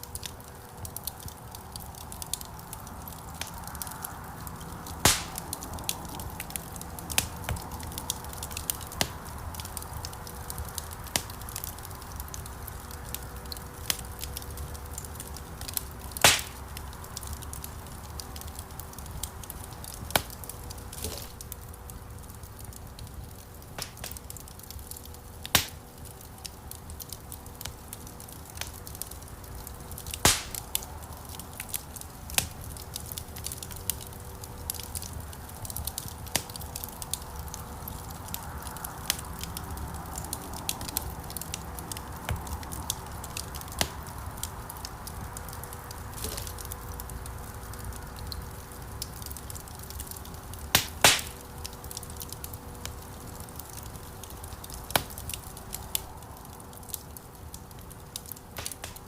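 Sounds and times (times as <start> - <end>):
logs crackling in a fireplace: 0.0 - 59.0
loud sharp pops of fire: 4.8 - 59.0.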